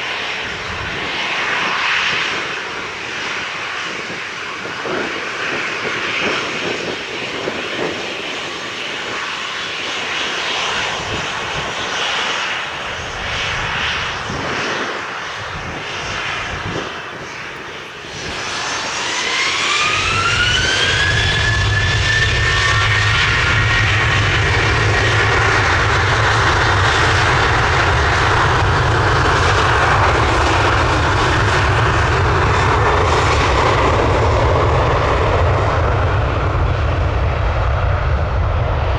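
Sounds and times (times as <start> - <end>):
jet engines spooling up: 0.0 - 38.9.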